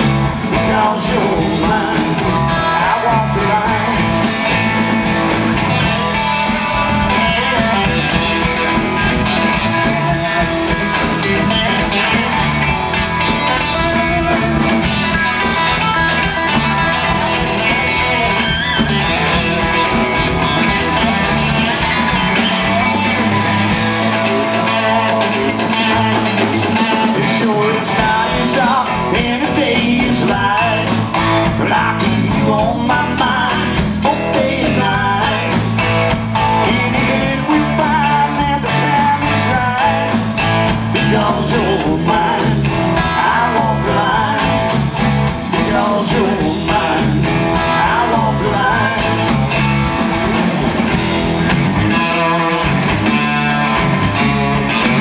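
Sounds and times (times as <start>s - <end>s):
lead electric guitar bending: 0.0s - 55.0s
rock band playing: 0.0s - 55.0s.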